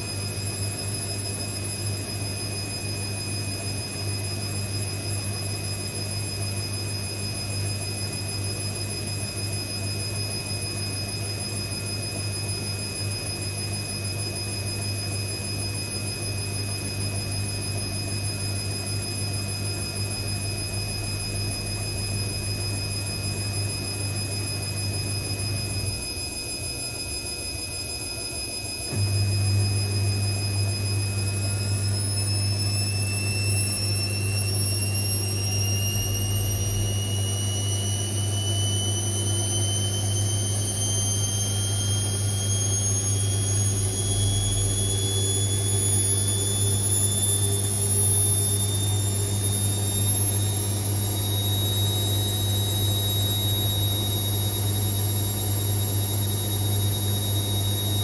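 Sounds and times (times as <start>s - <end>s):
motor whine rising in pitch: 0.0s - 58.0s
washing machine low hum: 0.0s - 58.0s.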